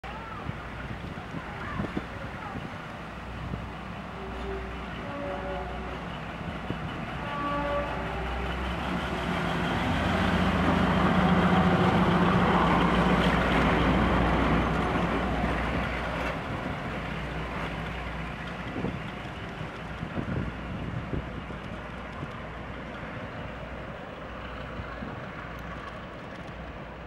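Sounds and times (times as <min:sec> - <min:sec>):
diesel locomotive passing: 0:00.0 - 0:27.0.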